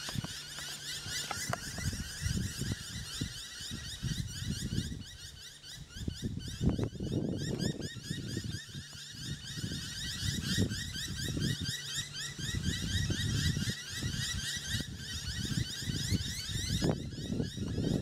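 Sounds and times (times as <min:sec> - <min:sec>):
birds giving alarm calls: 0:00.0 - 0:18.0.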